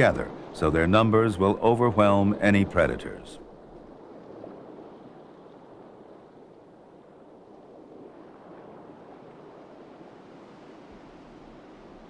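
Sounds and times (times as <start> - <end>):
soft rushing sea water: 0.0 - 12.0.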